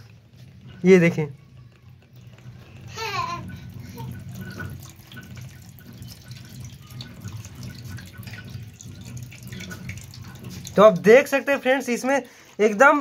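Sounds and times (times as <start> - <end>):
water pouring into a steel bowl: 0.0 - 13.0.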